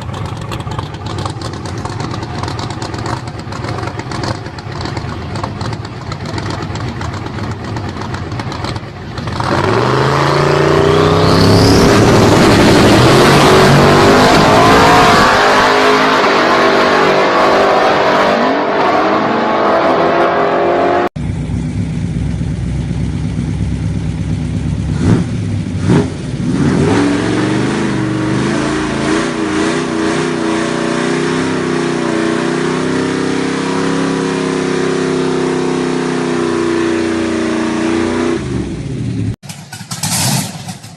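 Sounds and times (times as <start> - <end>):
car engine revving: 0.0 - 40.9
second car engine revving: 0.0 - 40.9.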